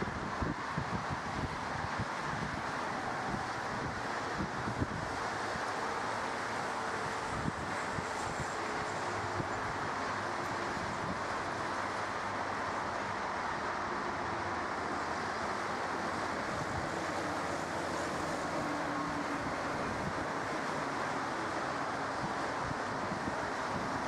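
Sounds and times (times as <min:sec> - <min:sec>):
wind on microphone: 0:00.0 - 0:06.1, 0:06.8 - 0:12.2, 0:15.5 - 0:24.0.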